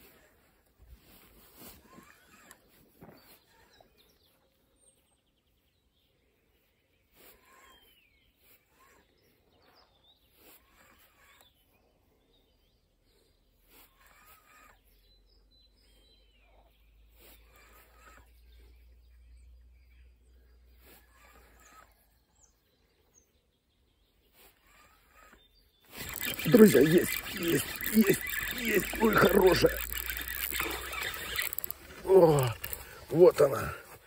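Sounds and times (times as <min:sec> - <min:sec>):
faint bird chirps: 0:01.9 - 0:34.0.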